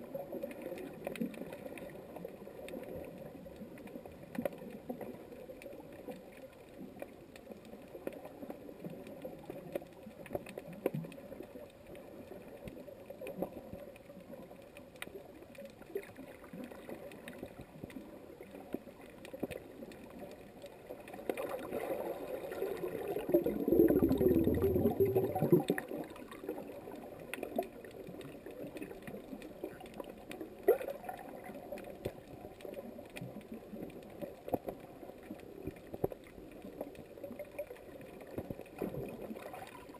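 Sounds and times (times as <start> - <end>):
muffled underwater wash: 0.0 - 39.9
small clicks and crackles: 0.0 - 39.9.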